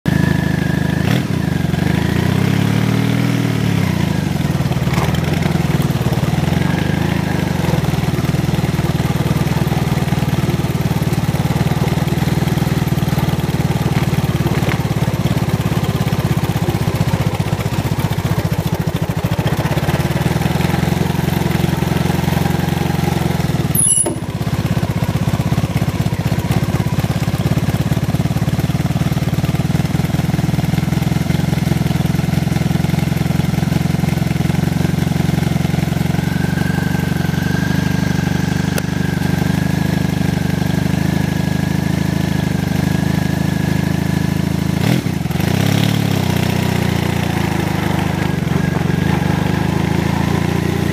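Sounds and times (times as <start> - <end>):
motorcycle engine revving: 0.1 - 50.9.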